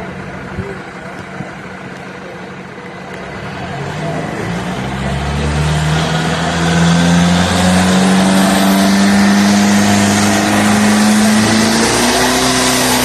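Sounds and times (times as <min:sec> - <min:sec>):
tractor diesel engine revving: 0:02.5 - 0:13.0.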